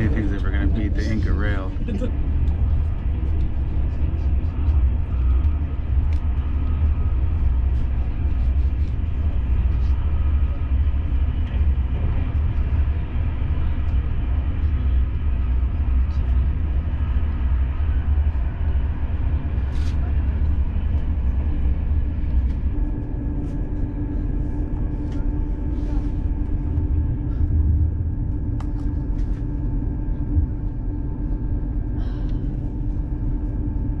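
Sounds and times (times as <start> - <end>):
steady hum: 0.0 - 34.0
train low rumble: 0.0 - 34.0.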